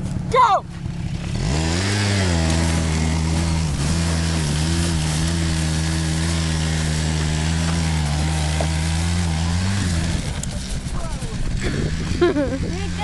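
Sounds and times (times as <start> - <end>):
quad engine: 0.0 - 13.0.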